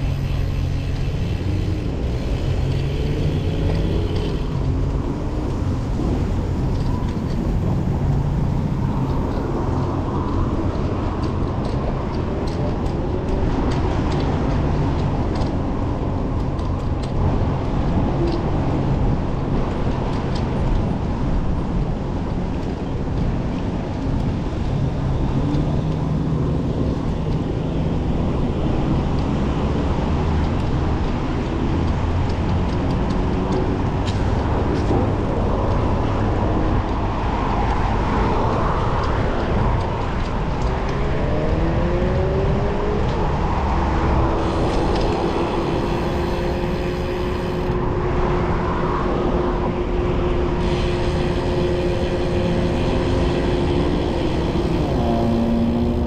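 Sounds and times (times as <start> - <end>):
vehicles passing: 0.0 - 56.0
wind rushing over microphone: 0.0 - 56.0.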